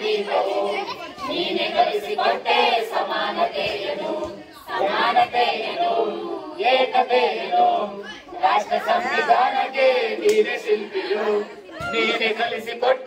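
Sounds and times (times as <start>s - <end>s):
voices singing without instruments: 0.0s - 13.0s.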